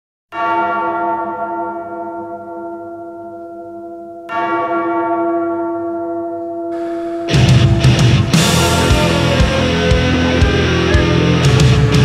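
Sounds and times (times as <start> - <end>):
large bell tolling: 0.4 - 12.0.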